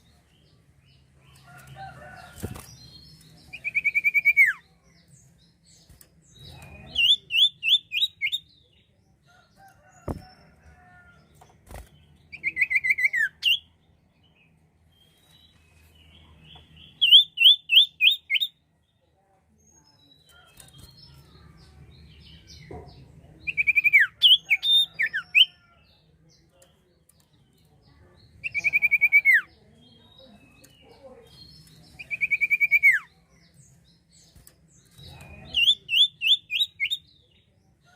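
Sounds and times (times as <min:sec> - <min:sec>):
songbird singing: 0:00.0 - 0:37.9.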